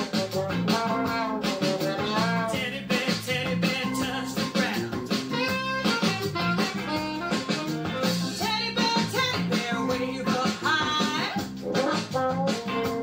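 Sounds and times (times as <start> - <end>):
children's dance song: 0.0 - 13.0.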